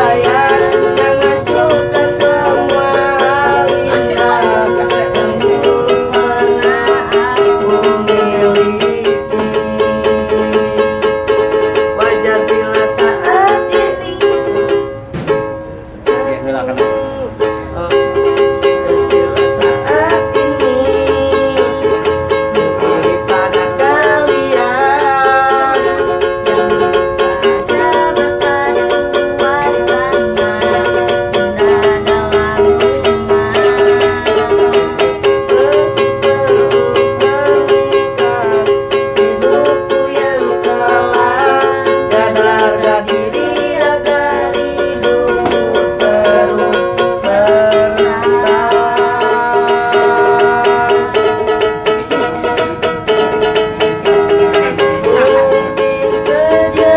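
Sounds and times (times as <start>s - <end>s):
man and woman singing: 0.0s - 15.0s, 15.9s - 56.9s
ukulele strumming: 0.0s - 56.9s.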